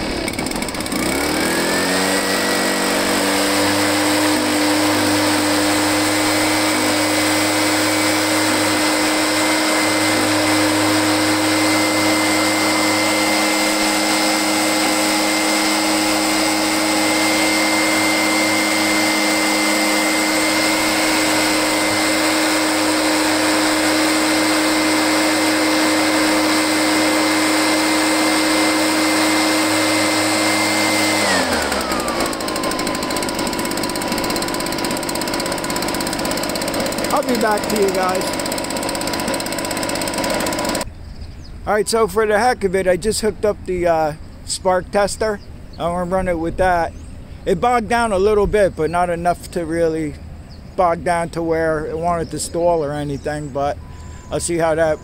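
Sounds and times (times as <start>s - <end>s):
leaf blower engine running: 0.0s - 40.9s, 51.0s - 55.0s.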